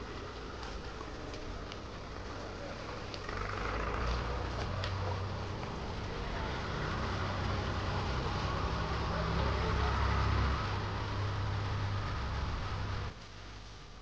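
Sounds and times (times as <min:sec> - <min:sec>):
road noise hiss: 0:00.0 - 0:14.0.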